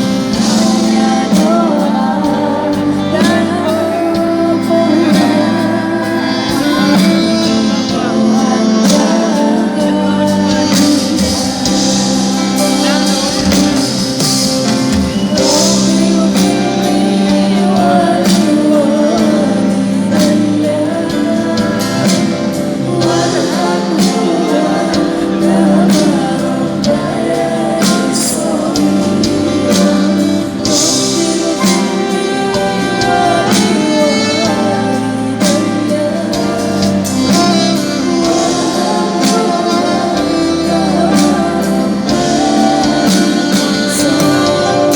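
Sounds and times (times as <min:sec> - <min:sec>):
live band music: 0:00.0 - 0:44.9
person singing: 0:00.0 - 0:44.9.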